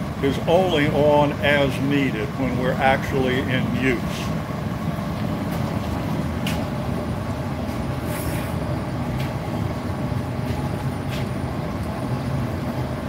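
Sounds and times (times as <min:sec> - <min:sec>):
gas furnace rumble: 0:00.0 - 0:13.0.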